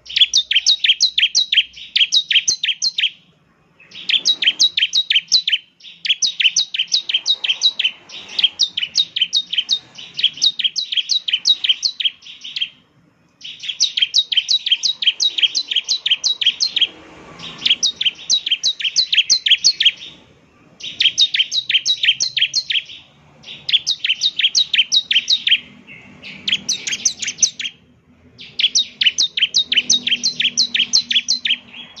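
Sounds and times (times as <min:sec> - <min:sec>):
bird singing high sharp chirps: 0:00.0 - 0:12.8, 0:13.4 - 0:32.0.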